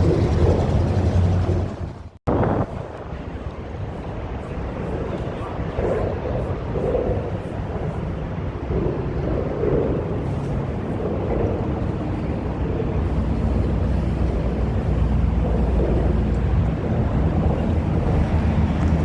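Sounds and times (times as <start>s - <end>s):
car engines rumbling: 0.0s - 19.0s
wind noise on microphone: 0.0s - 19.0s.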